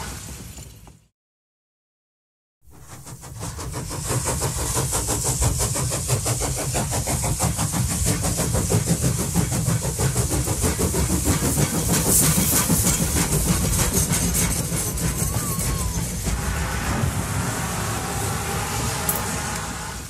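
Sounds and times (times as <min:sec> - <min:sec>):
train rumbling with rapid clicking: 0:02.6 - 0:20.0.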